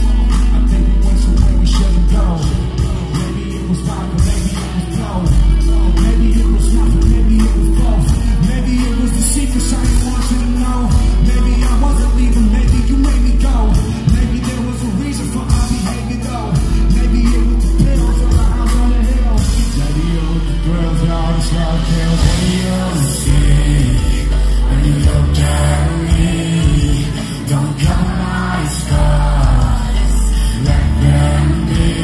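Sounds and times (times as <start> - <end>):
live band music: 0.0 - 32.0
man singing: 0.0 - 32.0.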